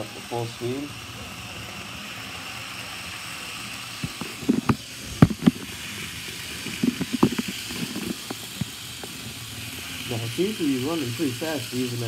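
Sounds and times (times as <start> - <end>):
model train motor hum: 0.0 - 12.0
wheels clicking on rails: 0.0 - 12.0.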